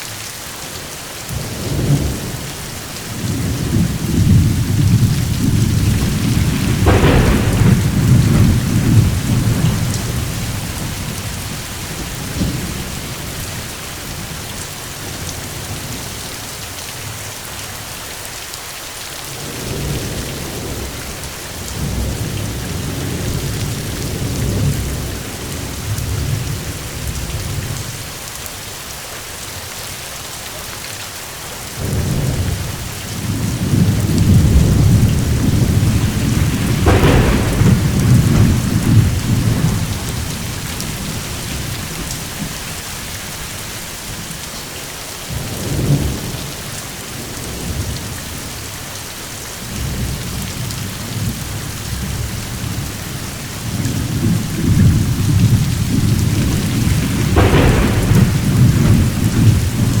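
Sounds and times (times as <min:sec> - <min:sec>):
steady rain: 0:00.0 - 1:00.0
rolling thunder: 0:01.3 - 0:16.2, 0:19.3 - 0:27.9, 0:31.8 - 0:44.6, 0:45.3 - 0:48.6, 0:49.6 - 1:00.0.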